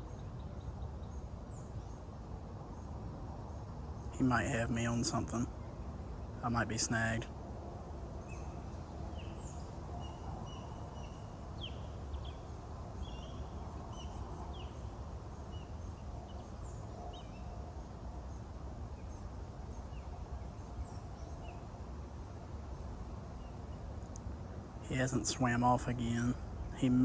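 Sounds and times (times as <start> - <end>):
low outdoor rumble: 0.0 - 27.0
birds chirping: 2.8 - 7.3, 8.2 - 24.2, 24.9 - 27.0.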